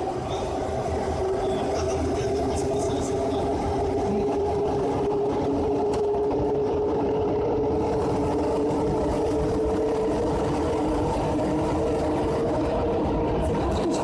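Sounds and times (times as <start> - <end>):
train motor whine: 0.0 - 14.0
train running rumble: 0.0 - 14.0.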